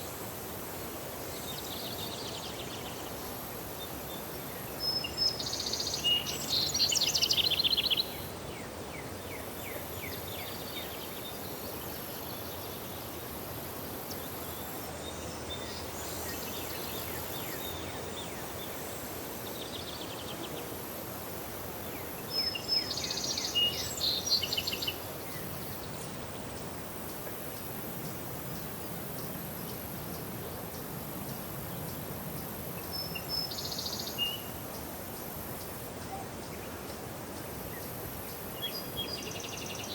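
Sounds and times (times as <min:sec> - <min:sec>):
songbird singing: 0:01.2 - 0:13.4, 0:14.0 - 0:20.9, 0:21.7 - 0:39.9.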